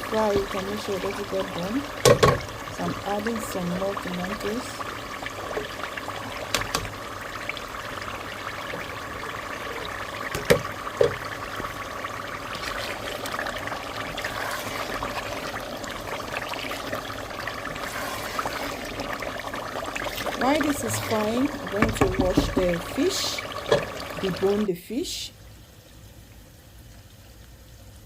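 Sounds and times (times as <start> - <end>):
food sizzling in oil: 0.0 - 24.7.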